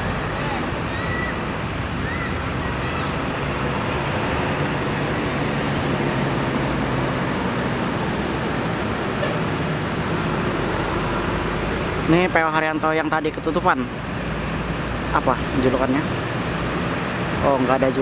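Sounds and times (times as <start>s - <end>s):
bus diesel engines droning: 0.0s - 18.0s
traffic noise: 0.0s - 18.0s.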